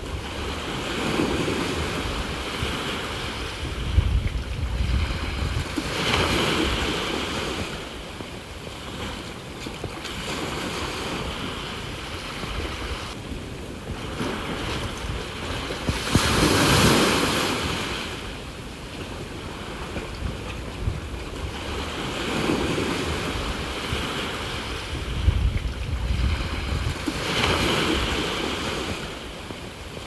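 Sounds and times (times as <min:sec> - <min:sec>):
sea waves washing onto shore: 0:00.0 - 0:30.0
wind rumble on microphone: 0:00.0 - 0:30.0.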